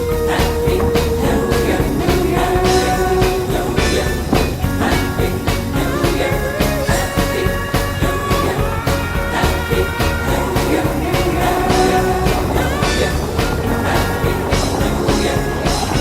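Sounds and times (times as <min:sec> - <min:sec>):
rock music with singing: 0:00.0 - 0:16.0.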